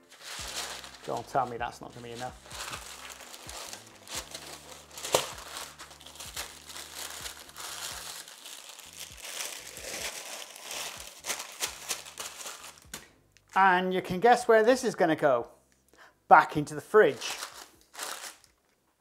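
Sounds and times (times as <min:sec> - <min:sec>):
parchment paper crinkling: 0:00.0 - 0:13.6, 0:17.0 - 0:18.8.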